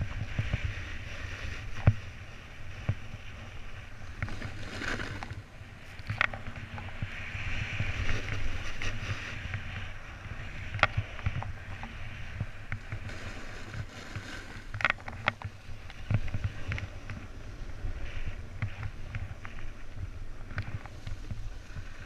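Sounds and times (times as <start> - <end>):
snowboard scraping over snow: 0.0 - 22.0
wind buffeting microphone: 0.0 - 22.0.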